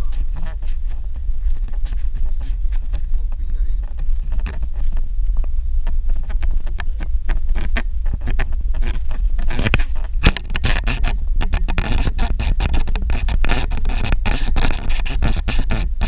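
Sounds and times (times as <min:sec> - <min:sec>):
gravel crackling under tyres: 0:00.0 - 0:16.0
vehicle rumbling on dirt road: 0:00.0 - 0:16.0.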